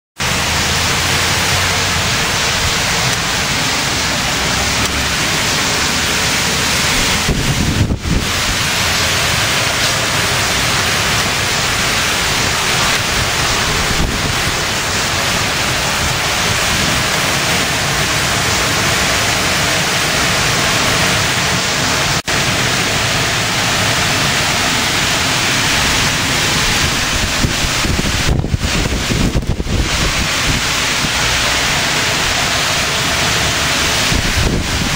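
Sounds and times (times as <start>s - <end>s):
driving rain: 0.2s - 34.9s
strong wind: 0.2s - 34.9s
wind buffeting microphone: 0.8s - 21.6s, 23.4s - 34.9s.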